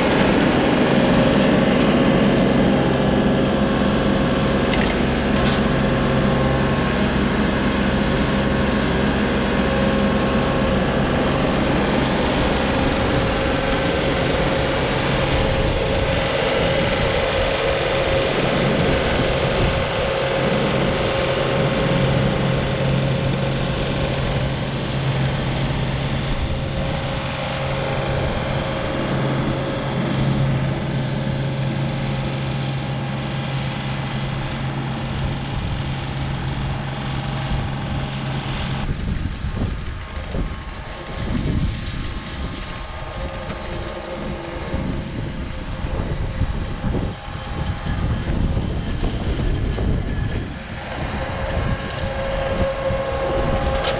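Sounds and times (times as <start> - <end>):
diesel engine under load: 0.0 - 53.9
rake drum churning soil: 0.0 - 53.9.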